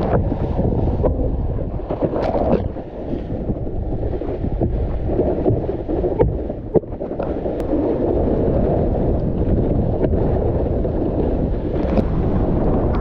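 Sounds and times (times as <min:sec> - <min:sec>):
water rushing under wakeboard: 0:00.0 - 0:13.0
wind buffeting microphone: 0:00.0 - 0:13.0.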